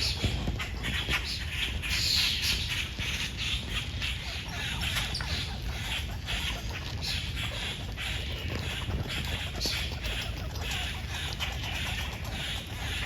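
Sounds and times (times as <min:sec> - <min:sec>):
animal chattering: 0:00.0 - 0:13.0.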